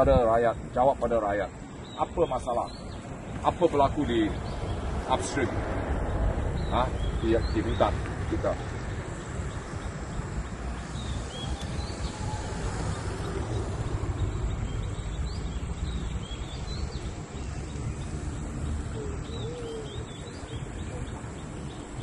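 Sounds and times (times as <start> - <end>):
birds chirping: 0.0 - 22.0
low rumbling background noise: 0.0 - 22.0
low gliding bird calls: 1.7 - 22.0.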